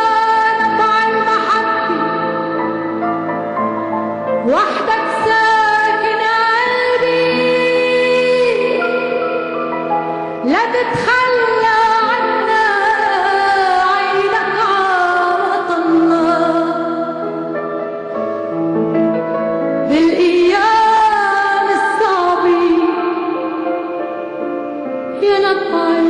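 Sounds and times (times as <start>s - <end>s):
woman singing with vibrato: 0.0s - 3.0s, 4.4s - 9.8s, 10.4s - 17.4s, 19.8s - 24.5s, 25.1s - 26.0s
sustained instrumental accompaniment: 0.0s - 26.0s.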